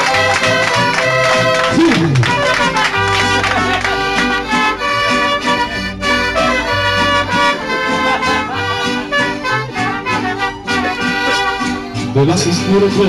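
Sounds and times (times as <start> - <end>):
mariachi band playing: 0.0 - 13.0
deep bass notes: 1.1 - 13.0.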